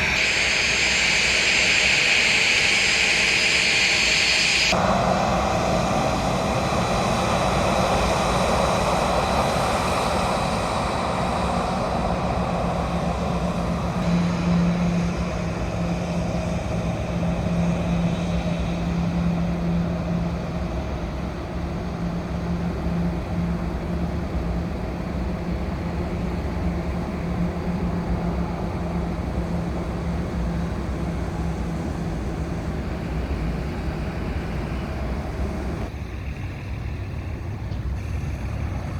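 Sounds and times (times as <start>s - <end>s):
jet airliner engine noise: 0.0s - 38.9s
steady low hum: 0.0s - 38.9s.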